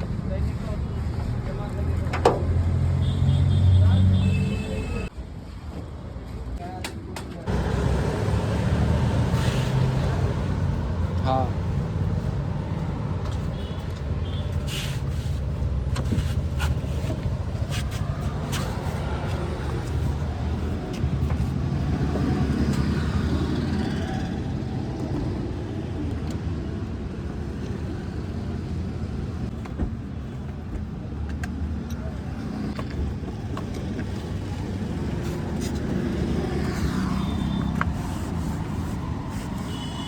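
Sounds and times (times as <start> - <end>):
vehicle engine rumble: 7.4 - 39.9.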